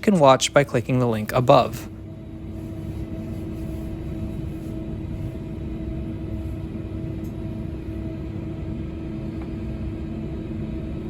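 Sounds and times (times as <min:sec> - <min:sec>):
constant electric hum: 0:00.0 - 0:11.0
train running gear rumble: 0:00.0 - 0:11.0.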